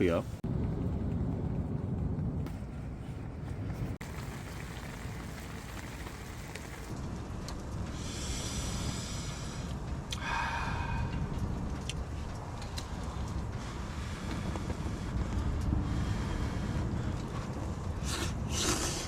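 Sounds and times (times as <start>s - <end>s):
wind rumble on microphone: 0.4s - 19.0s.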